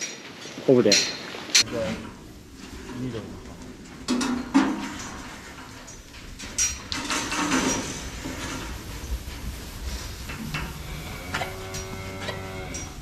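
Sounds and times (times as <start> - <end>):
metal gates clanking and rattling: 0.0 - 13.0.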